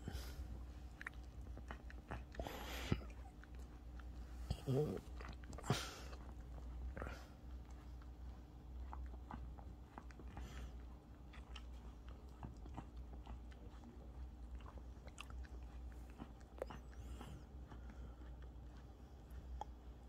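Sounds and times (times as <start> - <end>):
dog chewing: 0.0 - 20.0
steady low hum: 0.0 - 20.0.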